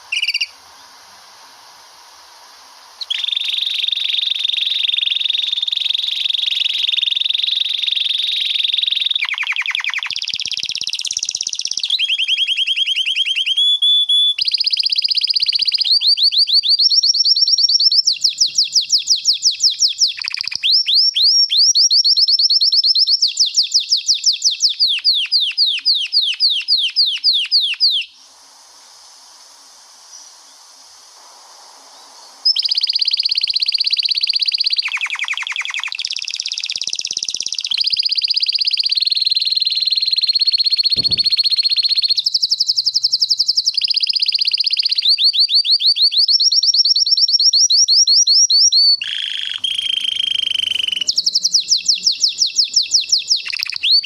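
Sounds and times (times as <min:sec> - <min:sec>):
canary singing trills: 0:00.0 - 0:00.9, 0:03.0 - 0:28.2, 0:32.4 - 0:54.0.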